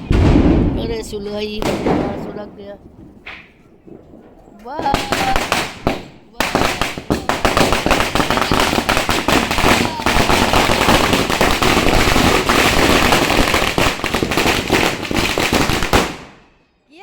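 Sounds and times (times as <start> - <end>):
firecracker string bangs: 0.0 - 4.0, 4.8 - 16.6.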